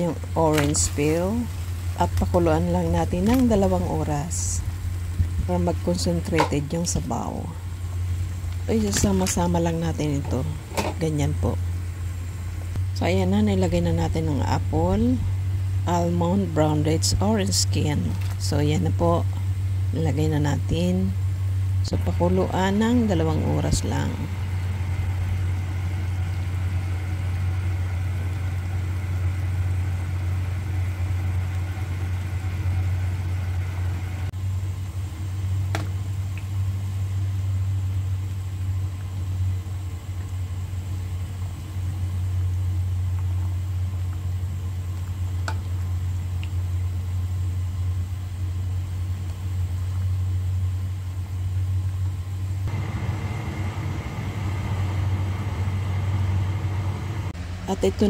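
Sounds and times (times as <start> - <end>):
soup boiling in a pot: 0.0 - 57.5
steady low hum: 0.0 - 58.0.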